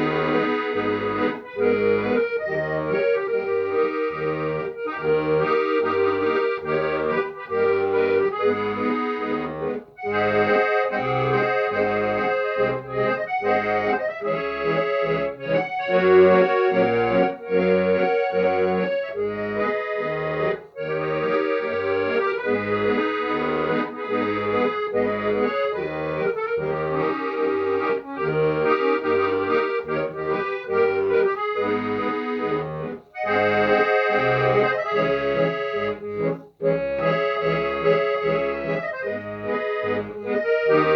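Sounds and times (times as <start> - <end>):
accordion melody: 0.0 - 40.9.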